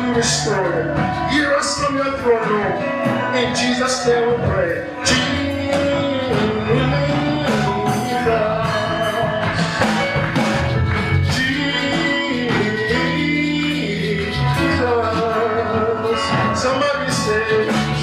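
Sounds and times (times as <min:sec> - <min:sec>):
bass line: 0:00.0 - 0:18.0
drum and cymbal hits: 0:00.0 - 0:18.0
keyboard chords: 0:00.0 - 0:18.0.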